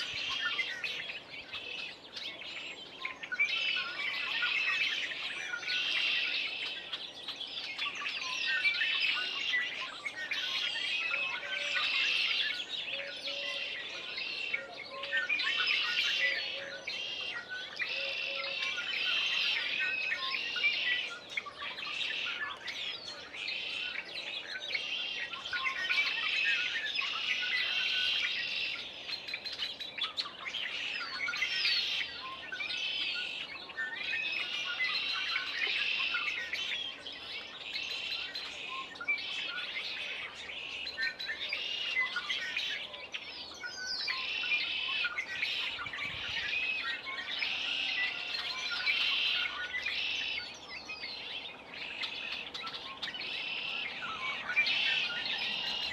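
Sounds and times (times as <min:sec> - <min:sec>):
blackbirds calling loudly: 0:00.0 - 0:55.9
songbirds chirping and singing: 0:00.0 - 0:55.9.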